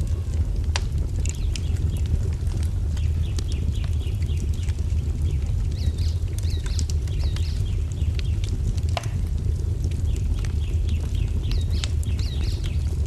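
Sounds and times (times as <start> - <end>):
fire pops: 0.0 - 13.0
low rumble: 0.0 - 13.0
wood fire crackling: 0.0 - 13.0
small birds chirping: 1.3 - 8.8, 9.8 - 13.0.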